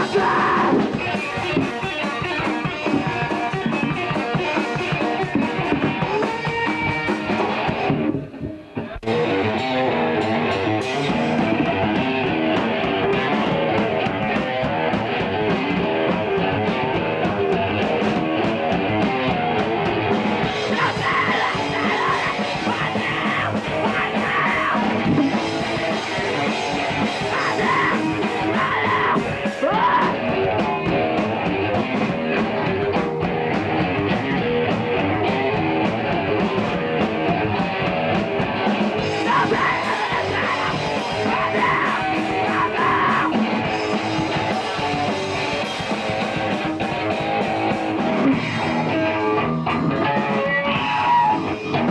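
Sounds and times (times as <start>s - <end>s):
loud rock music: 0.0s - 51.9s.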